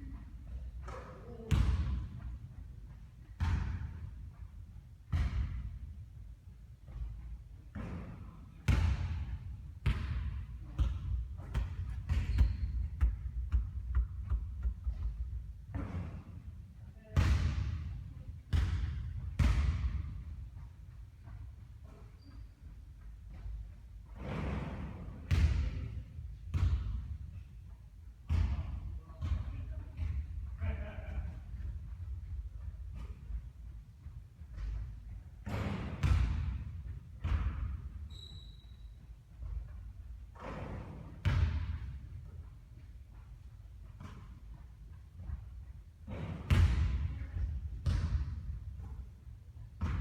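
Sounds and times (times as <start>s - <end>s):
basketball bouncing on court: 0.0s - 6.0s, 6.8s - 22.4s, 23.0s - 42.3s, 43.8s - 50.0s.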